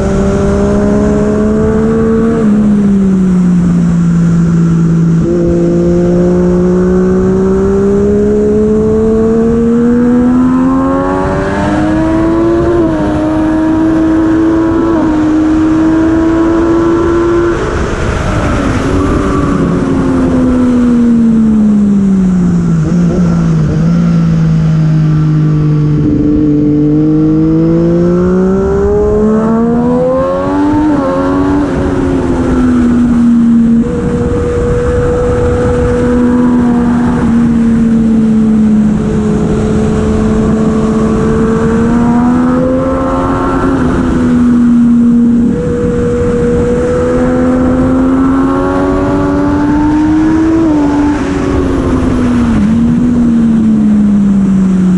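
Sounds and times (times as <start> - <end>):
motorcycle engine revving: 0.0 - 54.9
wind noise: 0.0 - 54.9.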